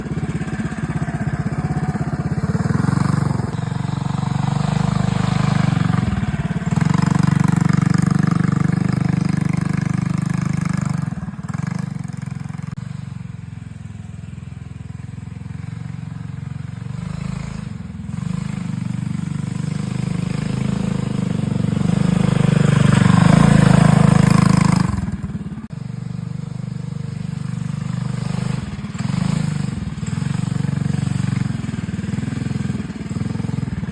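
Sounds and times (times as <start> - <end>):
minibike engine revving: 0.0 - 33.9.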